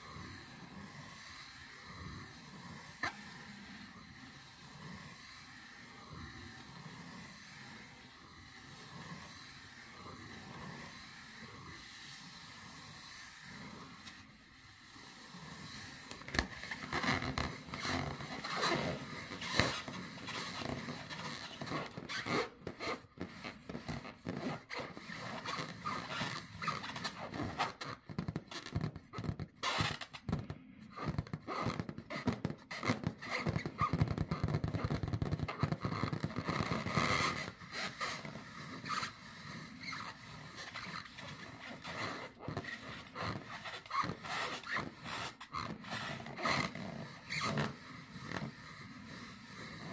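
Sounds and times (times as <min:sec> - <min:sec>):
claws scratching rubber balloon: 0:00.0 - 0:49.9.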